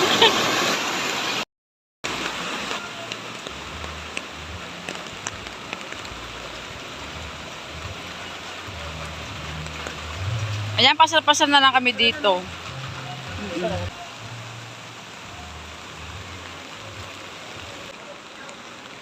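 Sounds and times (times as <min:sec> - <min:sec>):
heavy rain falling: 0:00.0 - 0:01.4, 0:02.0 - 0:19.0
rushing water: 0:00.0 - 0:01.4, 0:02.0 - 0:19.0.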